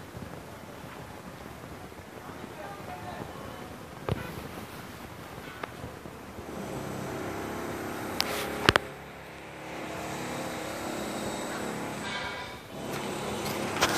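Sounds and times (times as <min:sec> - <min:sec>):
vehicle engines humming: 0:02.6 - 0:13.9.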